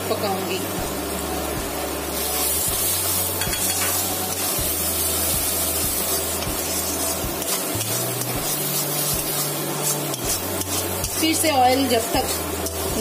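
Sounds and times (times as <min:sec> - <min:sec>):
gravy hissing and sizzling: 0:00.0 - 0:13.0
metal spatula stirring: 0:02.5 - 0:13.0.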